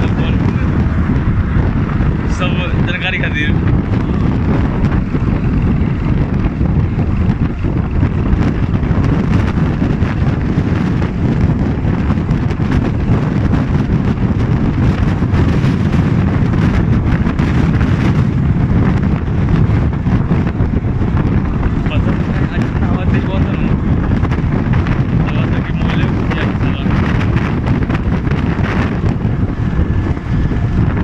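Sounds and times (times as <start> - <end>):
road and wind noise: 0.0 - 31.0
wind buffeting microphone: 0.0 - 31.0.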